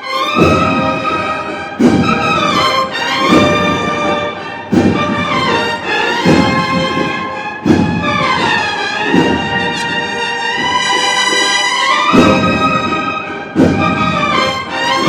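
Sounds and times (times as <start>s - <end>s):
brass playing long held notes: 0.0s - 15.0s
drum beat: 0.3s - 15.0s.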